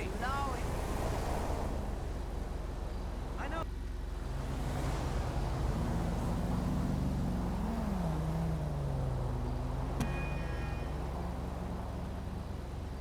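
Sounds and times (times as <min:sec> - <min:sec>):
car engine running at low revs: 0:01.3 - 0:13.0.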